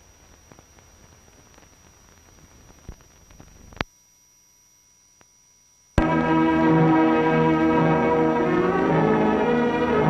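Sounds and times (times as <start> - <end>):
faint steady tone: 0.0 - 10.0
film soundtrack hiss and crackle: 0.0 - 10.0.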